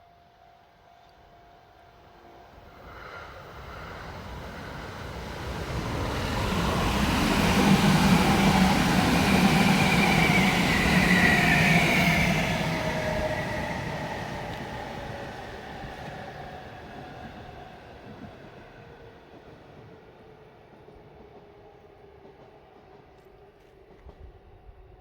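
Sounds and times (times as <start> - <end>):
train wheel rumble: 2.7 - 19.9, 20.6 - 25.0.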